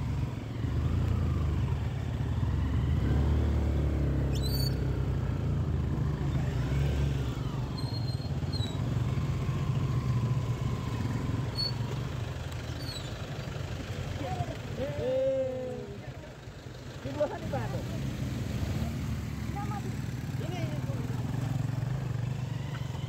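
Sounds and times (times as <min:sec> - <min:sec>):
road rumble: 0:00.0 - 0:23.0
vehicle engine humming: 0:00.0 - 0:23.0.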